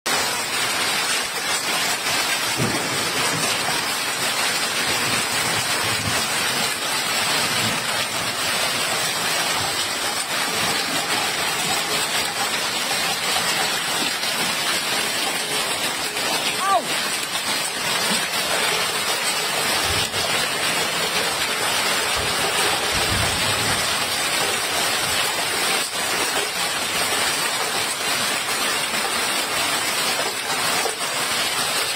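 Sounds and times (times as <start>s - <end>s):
hailstones striking the ground: 0.1s - 31.9s.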